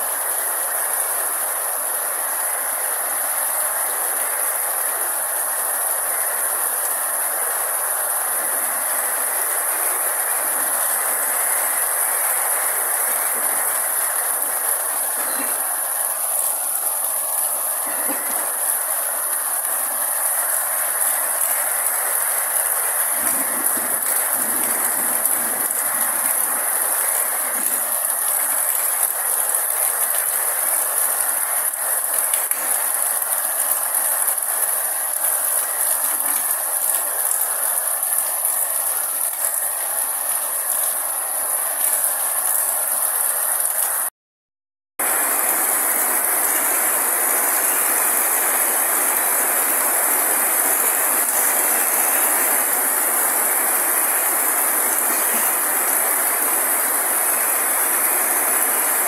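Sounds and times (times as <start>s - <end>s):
rain falling on leaves: 0.0s - 44.1s, 45.0s - 59.0s.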